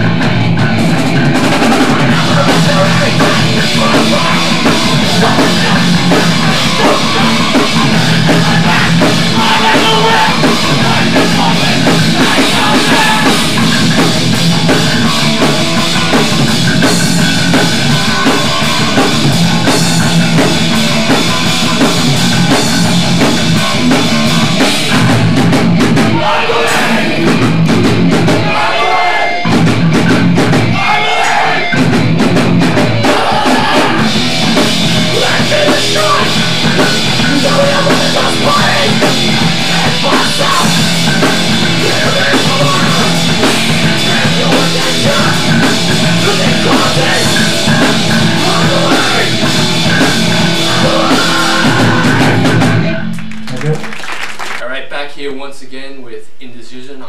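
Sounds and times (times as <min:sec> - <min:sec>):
punk rock band playing: 0:00.0 - 0:54.6.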